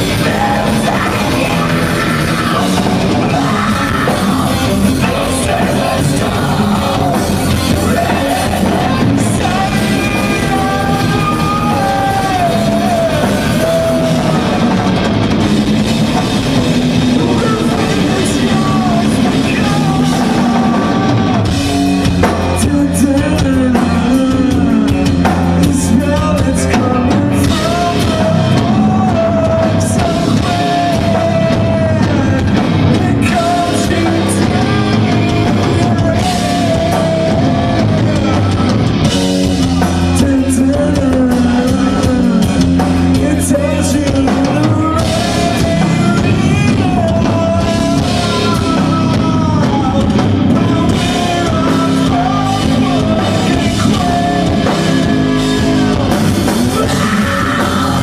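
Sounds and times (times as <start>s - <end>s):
drum kit: 0.0s - 58.0s
electric guitar: 0.0s - 58.0s
person singing: 0.0s - 58.0s.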